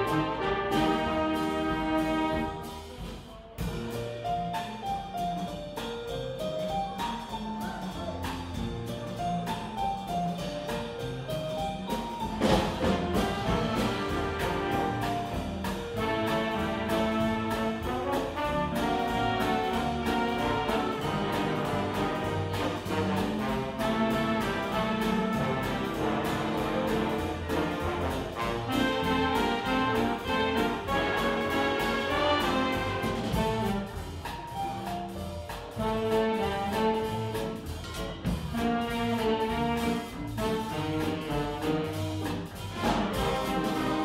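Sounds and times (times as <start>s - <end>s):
big band playing: 0.0s - 44.0s.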